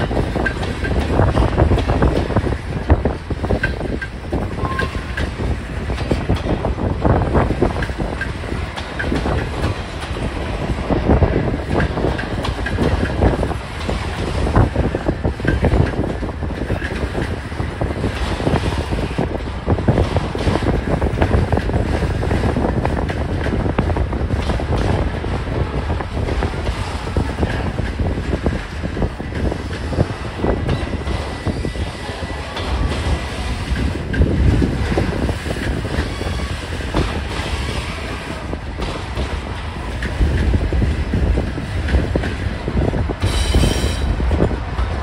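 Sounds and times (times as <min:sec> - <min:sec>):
train wheels rumbling on rails: 0:00.0 - 0:45.0
wheels clacking over rail joints: 0:00.0 - 0:45.0.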